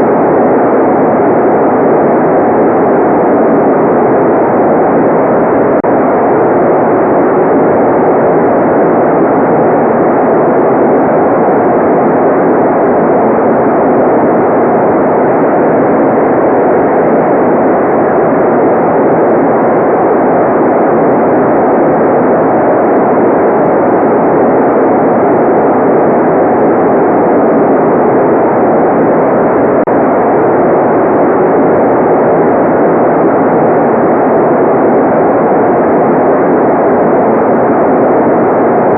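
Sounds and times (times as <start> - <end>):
muffled white noise: 0.0 - 38.9.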